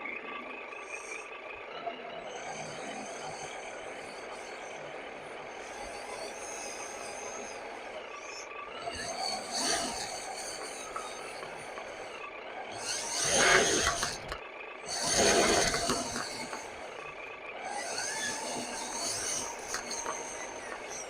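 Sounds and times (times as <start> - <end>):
electric drive whine: 0.0 - 21.0
loud rasping swells: 2.2 - 21.0.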